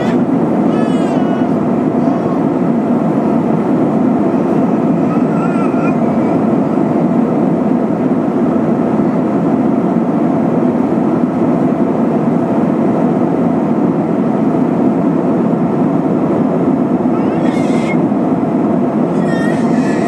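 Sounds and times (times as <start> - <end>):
jet engine drone: 0.0 - 20.0
rushing airflow in airplane cabin: 0.0 - 20.0.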